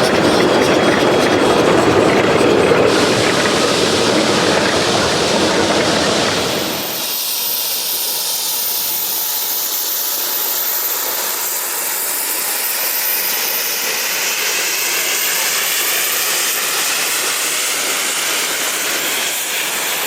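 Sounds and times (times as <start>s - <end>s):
hiss of escaping steam: 0.0s - 20.0s
steam locomotive rumble: 0.0s - 20.0s.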